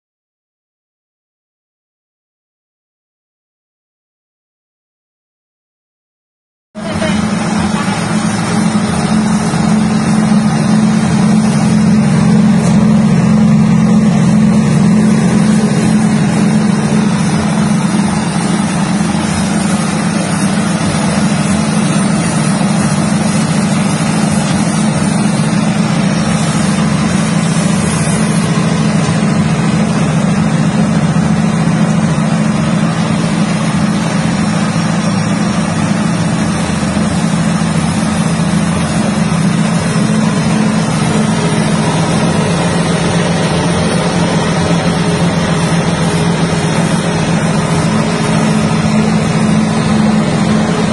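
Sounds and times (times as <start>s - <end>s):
shelling machine engine drone: 6.8s - 50.9s.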